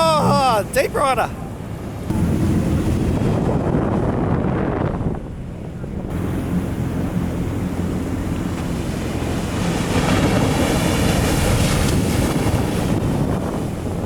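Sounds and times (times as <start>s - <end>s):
surf rushing: 0.0s - 14.0s
wave breaking: 0.0s - 14.0s
wind buffeting microphone: 0.0s - 14.0s.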